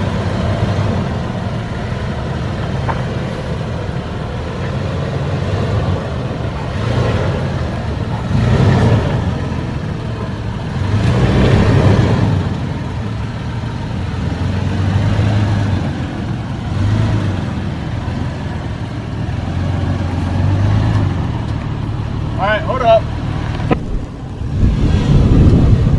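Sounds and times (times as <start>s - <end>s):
engine running at low revs: 0.0s - 25.9s
tyre and chassis noise: 0.0s - 25.9s.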